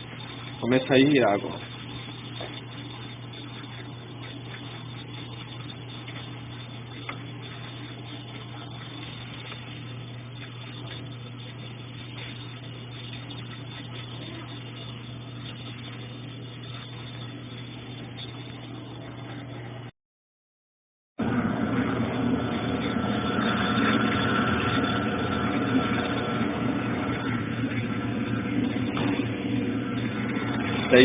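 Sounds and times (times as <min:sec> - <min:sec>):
washing machine low hum: 0:00.0 - 0:19.9, 0:21.2 - 0:31.0.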